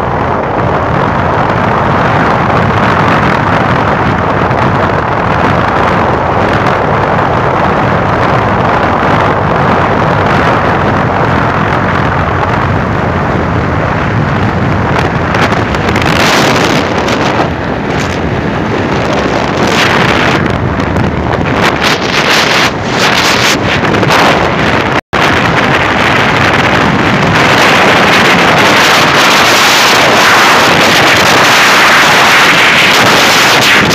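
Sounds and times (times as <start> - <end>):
motorcycle running: 0.0 - 33.9
wind gusts hissing: 0.0 - 33.9
wind roaring over microphone: 0.0 - 33.9.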